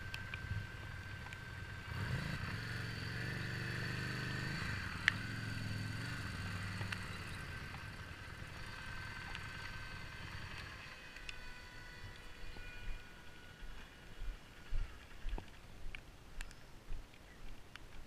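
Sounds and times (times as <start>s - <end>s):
motorcycle engine at low revs: 0.0s - 15.6s.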